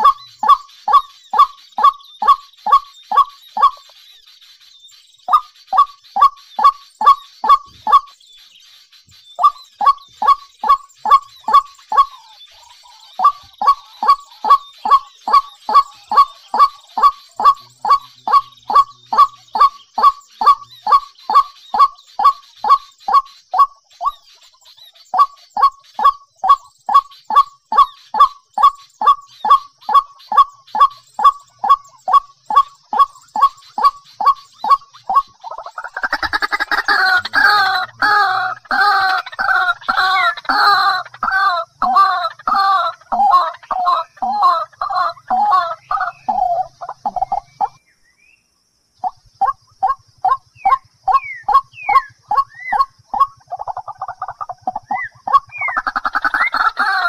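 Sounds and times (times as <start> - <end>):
waterhen honking calls: 0.0 - 3.8, 9.4 - 23.7, 25.2 - 47.8, 49.4 - 57.0.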